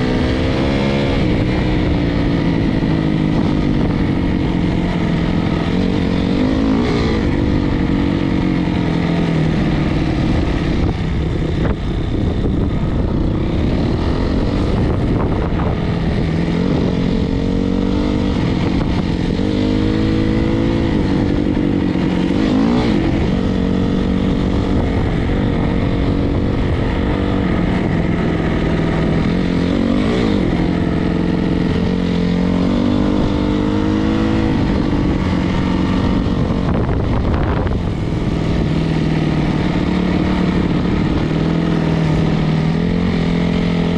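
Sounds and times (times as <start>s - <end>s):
dirt bike engine: 0.0s - 43.9s.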